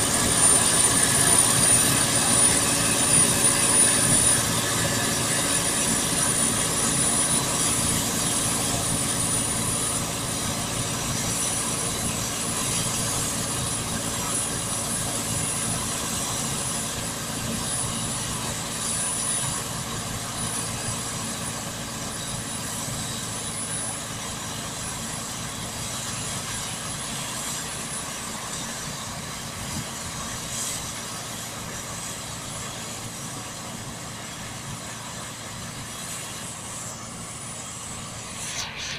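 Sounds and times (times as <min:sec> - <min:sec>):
thin high whine: 0:00.0 - 0:25.0, 0:26.0 - 0:38.9
combine harvester running: 0:00.0 - 0:38.9.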